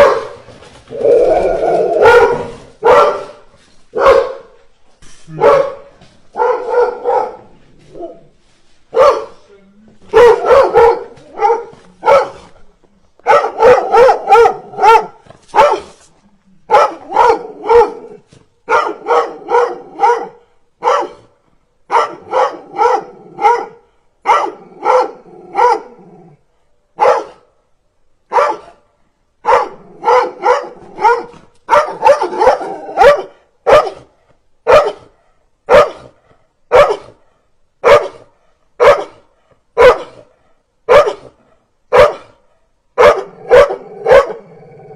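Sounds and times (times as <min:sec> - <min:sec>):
dog barking: 0:00.0 - 0:00.5, 0:01.6 - 0:04.7, 0:05.3 - 0:08.3, 0:08.9 - 0:09.5, 0:10.1 - 0:12.6, 0:13.2 - 0:16.0, 0:16.7 - 0:26.0, 0:27.0 - 0:27.5, 0:28.3 - 0:44.5.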